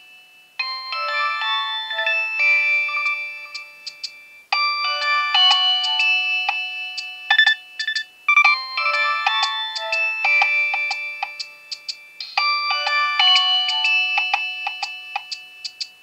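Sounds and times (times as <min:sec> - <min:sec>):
polyphonic phone ringtone: 0:00.0 - 0:16.0.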